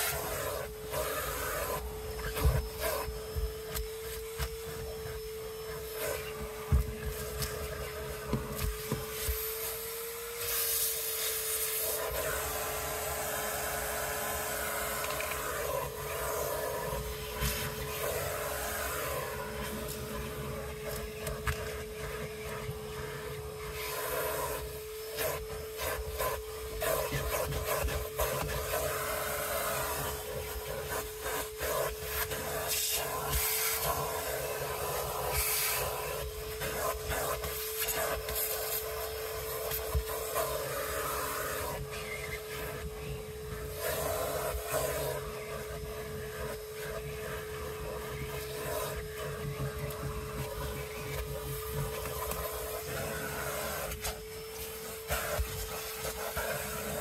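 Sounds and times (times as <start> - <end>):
small motor whining: 0.0 - 57.0.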